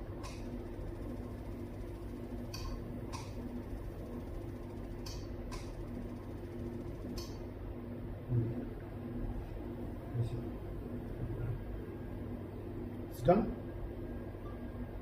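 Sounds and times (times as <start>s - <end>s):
machine humming with pulsing tone: 0.0s - 15.0s.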